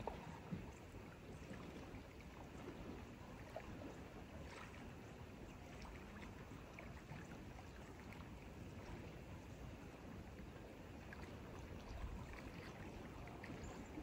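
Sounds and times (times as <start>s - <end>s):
water lapping at bank: 0.0s - 14.0s.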